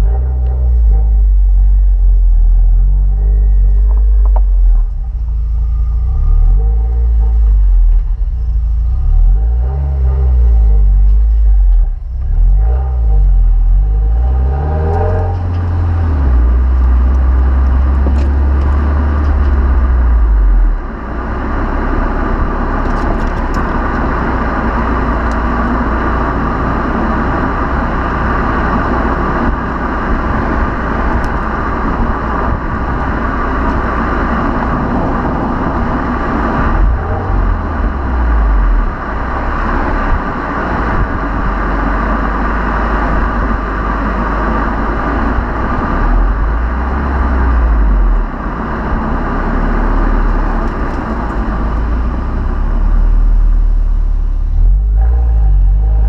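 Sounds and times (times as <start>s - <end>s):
car engine accelerating: 0.0s - 56.0s
tyre and wind noise: 6.1s - 53.8s.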